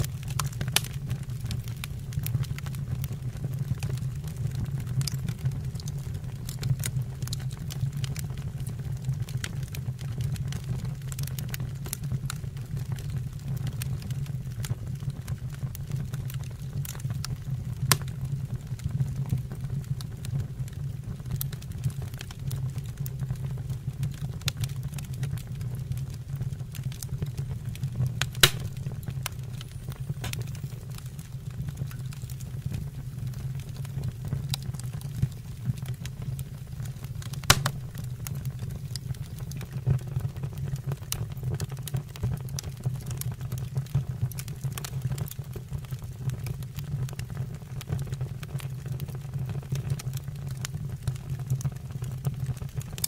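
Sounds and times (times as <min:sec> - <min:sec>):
fire crackling and popping: 0:00.0 - 0:53.0
low rumble of fire: 0:00.0 - 0:53.0.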